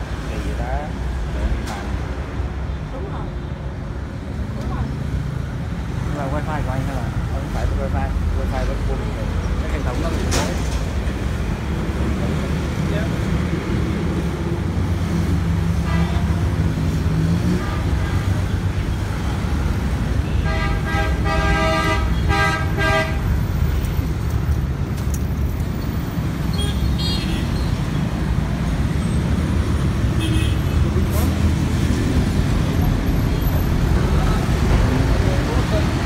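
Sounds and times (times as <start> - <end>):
traffic engine rumble: 0.0 - 36.0.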